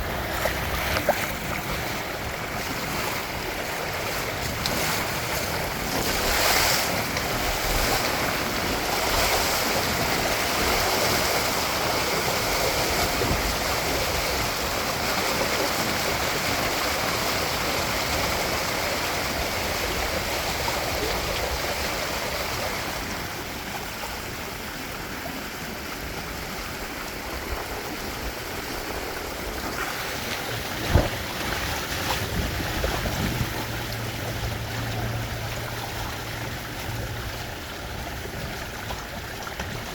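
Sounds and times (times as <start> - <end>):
wind buffeting microphone: 0.0 - 23.3, 25.7 - 39.9
water rushing past hulls: 0.0 - 39.9.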